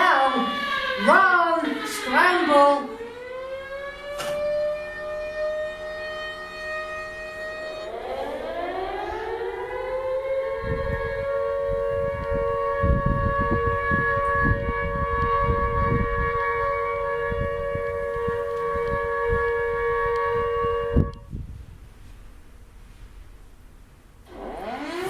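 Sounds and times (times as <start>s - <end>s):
air-raid siren wailing: 0.0s - 21.3s, 24.3s - 25.0s
low rumbling: 0.0s - 25.0s.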